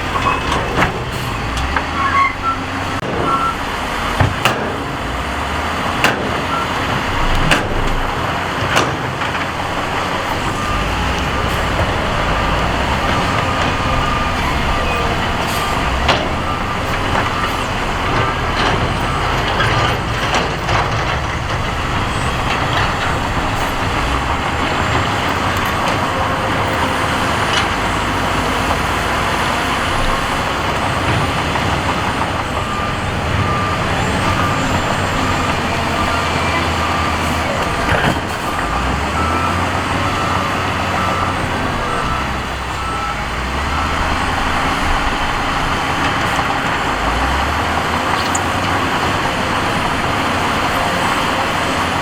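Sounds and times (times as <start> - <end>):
reversing alarm beeping: 0.0 - 4.2, 6.2 - 52.0
heavy diesel machinery running: 0.0 - 52.0.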